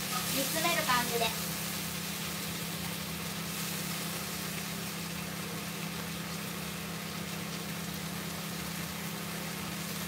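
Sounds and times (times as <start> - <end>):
faint sizzling in frying pan: 0.0 - 10.0
range hood fan humming: 0.0 - 10.0.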